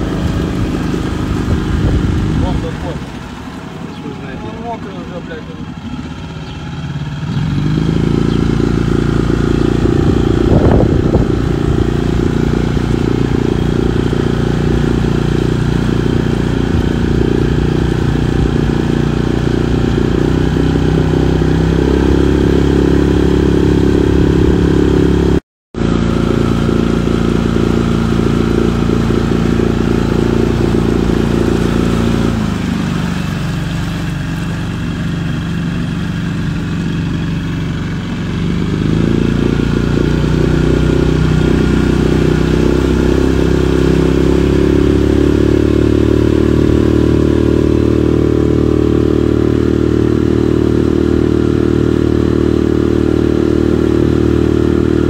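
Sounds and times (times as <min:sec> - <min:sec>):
outboard engine running: 0:00.0 - 0:55.0.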